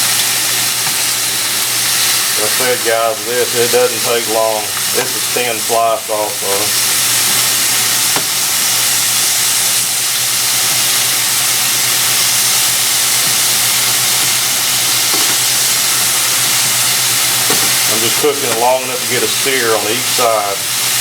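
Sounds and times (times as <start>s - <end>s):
meat sizzling in oil in a pan: 0.0s - 21.0s.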